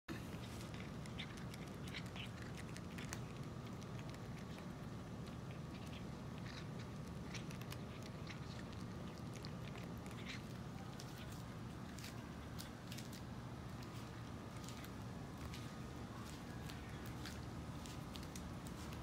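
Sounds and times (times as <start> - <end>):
cats crunching dry kibble: 0.1 - 19.0
low background hum: 0.1 - 19.0.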